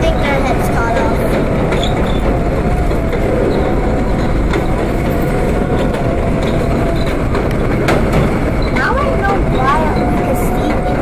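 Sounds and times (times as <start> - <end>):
sharp clicks from rails: 0.0 - 11.0
subway car rumble and hum: 0.0 - 11.0.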